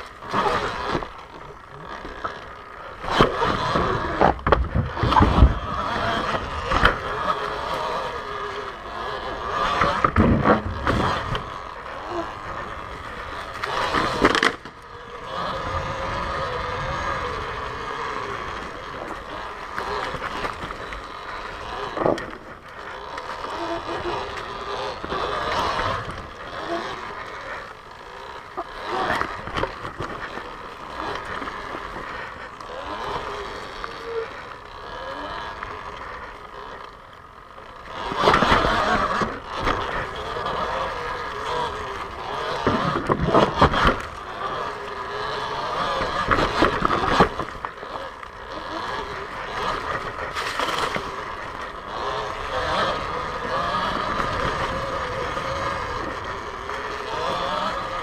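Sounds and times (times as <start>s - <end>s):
electric dirt bike motor whine: 0.0s - 58.0s.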